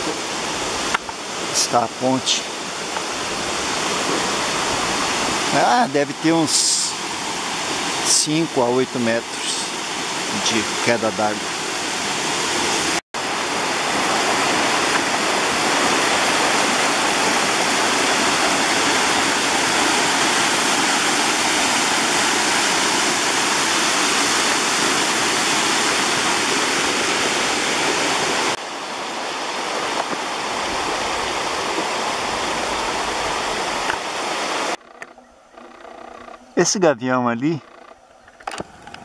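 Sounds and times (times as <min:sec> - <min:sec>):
waterfall rushing: 0:00.0 - 0:34.8
flowing water: 0:00.0 - 0:39.0.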